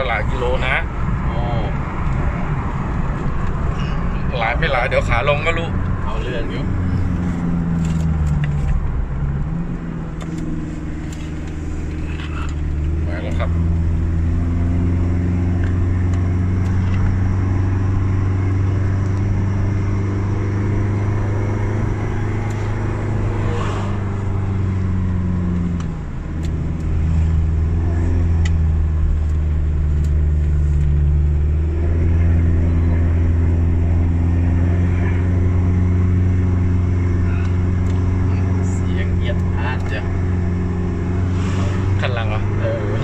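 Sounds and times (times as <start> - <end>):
car engine drone from inside: 0.0 - 43.0.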